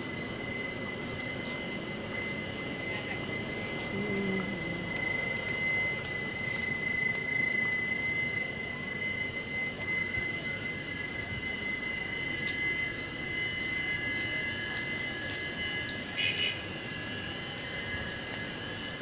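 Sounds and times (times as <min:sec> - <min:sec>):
high-pitched whine: 0:00.0 - 0:19.0
train mechanical hum: 0:00.0 - 0:19.0.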